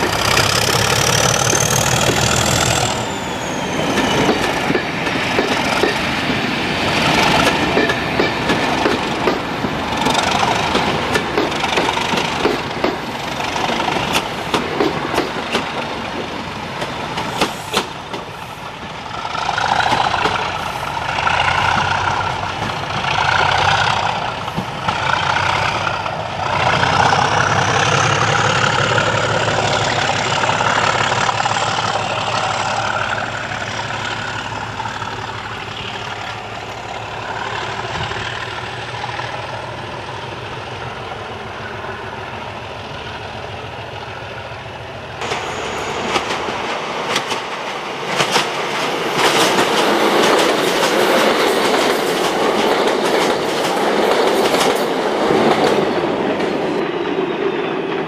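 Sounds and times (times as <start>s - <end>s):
train wheels clicking over rail joints: 0.0s - 3.2s, 3.8s - 42.0s, 45.2s - 58.0s
train wheels rumbling and squealing: 0.0s - 58.0s.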